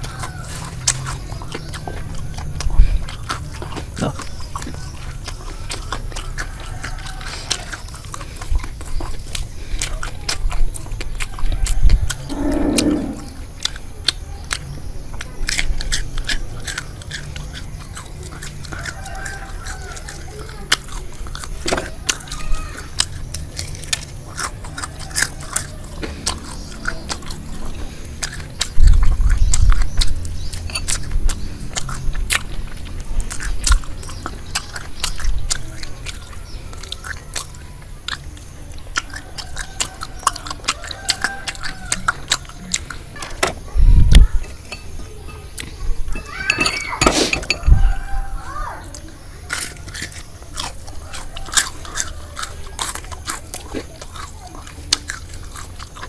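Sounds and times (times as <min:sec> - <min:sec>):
chewing crunchy fried food: 0:00.0 - 0:56.0.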